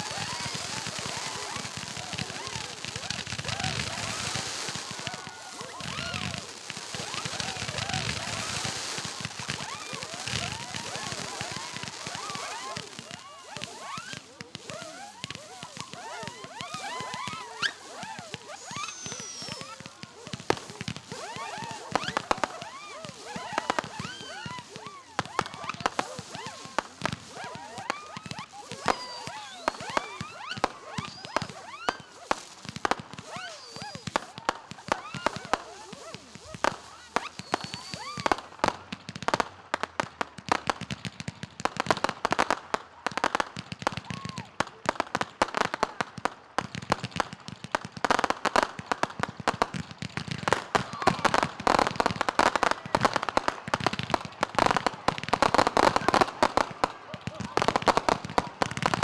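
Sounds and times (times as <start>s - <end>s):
fireworks popping and cracking: 0.0s - 59.0s
fireworks whistling: 0.0s - 59.0s.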